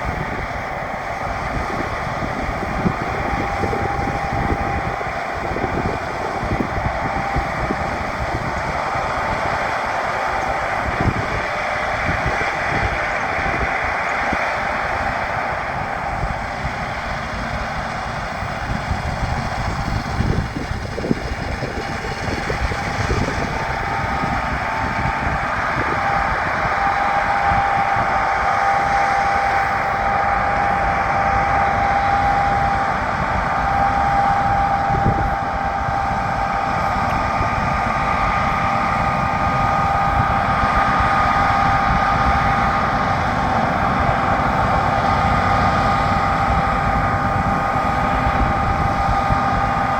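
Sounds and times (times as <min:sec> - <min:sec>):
harvest machinery engine drone: 0:00.0 - 0:49.9.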